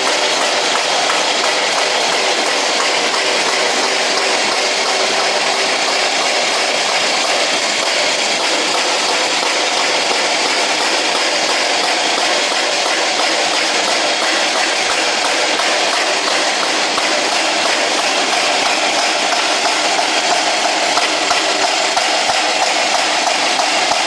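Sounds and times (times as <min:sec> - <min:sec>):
excavator engine and hydraulics: 0:00.0 - 0:24.0.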